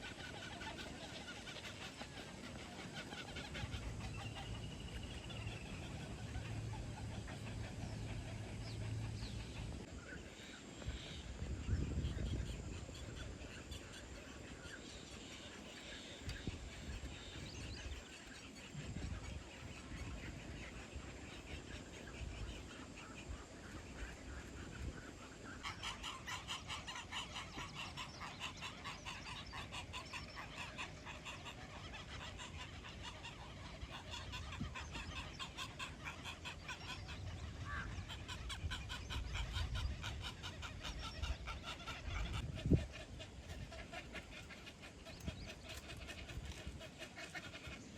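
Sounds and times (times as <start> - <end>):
birds calling: 0.0 - 47.9.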